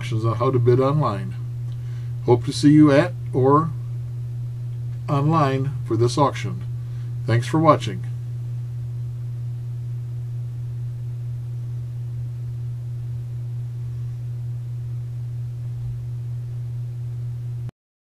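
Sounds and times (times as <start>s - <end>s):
low electrical hum: 0.0s - 17.7s.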